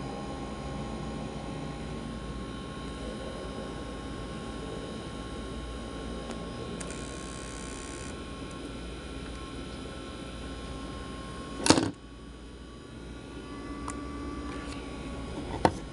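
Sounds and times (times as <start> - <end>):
fan vibrating hum and whine: 0.0 - 15.9.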